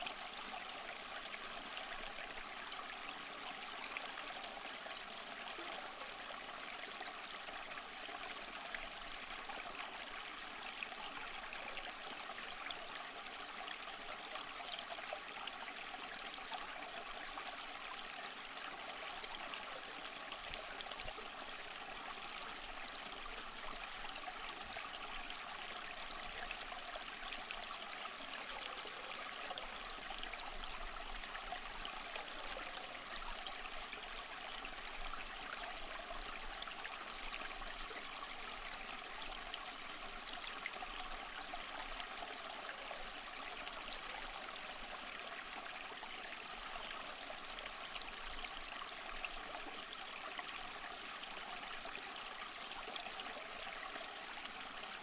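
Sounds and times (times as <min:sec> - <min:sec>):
small stream trickling: 0:00.0 - 0:55.0.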